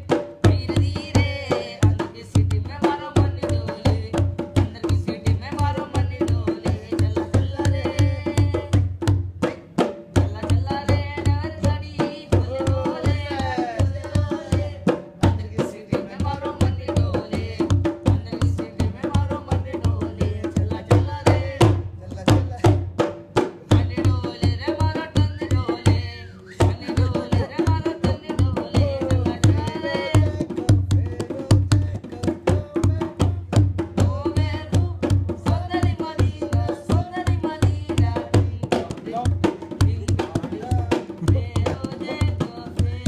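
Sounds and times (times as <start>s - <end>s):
hand drum beating: 0.0s - 43.0s.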